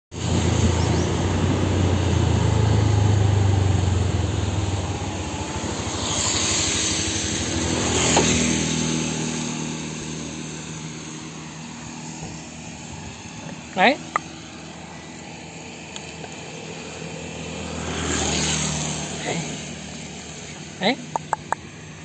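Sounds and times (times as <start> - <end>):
vehicle engine humming: 0.1 - 22.0.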